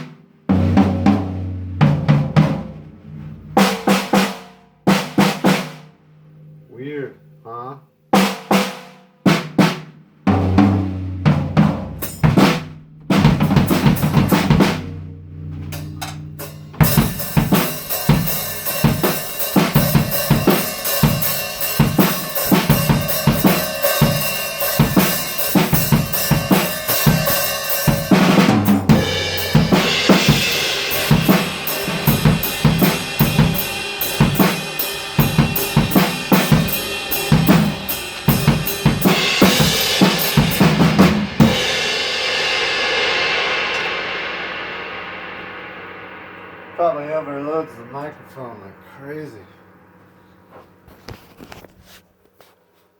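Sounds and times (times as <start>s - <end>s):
drum kit played loud: 0.0s - 6.5s, 8.2s - 50.0s.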